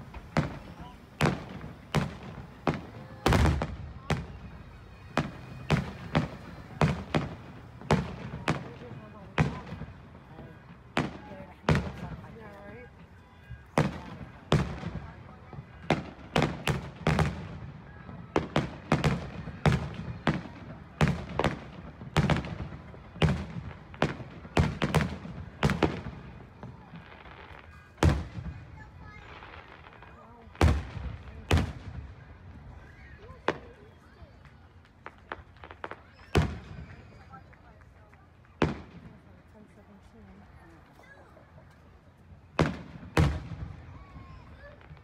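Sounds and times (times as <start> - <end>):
fireworks booming: 0.0 - 33.8, 34.8 - 37.4, 38.5 - 39.5, 42.4 - 45.0.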